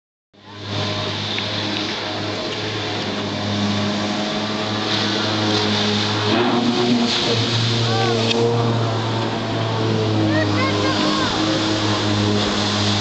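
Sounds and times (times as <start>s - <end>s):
jet ski engine droning: 0.4s - 13.0s.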